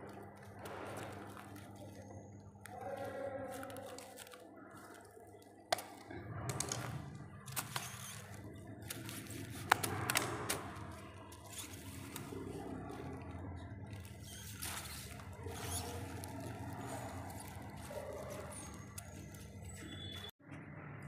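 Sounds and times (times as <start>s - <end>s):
plastic grass rustling and crackling: 0.0s - 20.3s.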